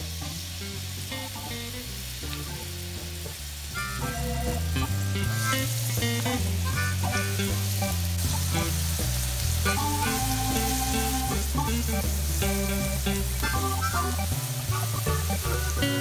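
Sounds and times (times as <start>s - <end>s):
background music with bass line: 0.0s - 16.0s
onions sizzling in oil: 0.0s - 16.0s.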